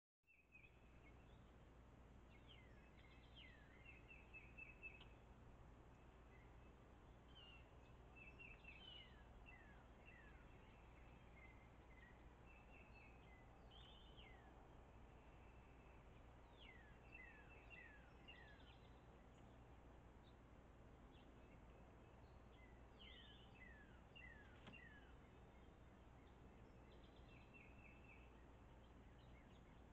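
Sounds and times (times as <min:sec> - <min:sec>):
songbird chirps: 0:00.2 - 0:29.9.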